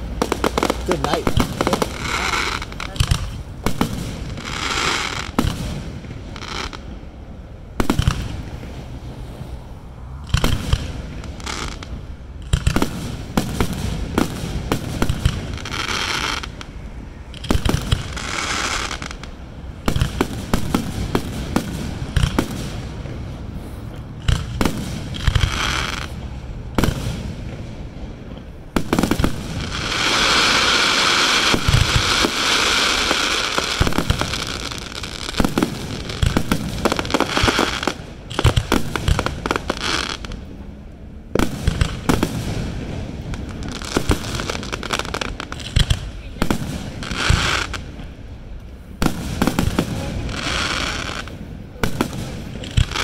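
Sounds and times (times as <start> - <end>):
fireworks hissing: 0.0 - 7.1, 7.8 - 53.0
fireworks bursting with bangs: 0.0 - 53.0
fireworks crackle: 0.0 - 53.0.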